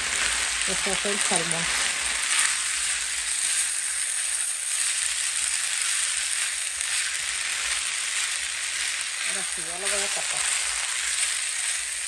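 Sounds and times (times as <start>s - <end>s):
food sizzling in a frying pan: 0.0s - 12.0s
spatula stirring in a pan: 0.0s - 12.0s.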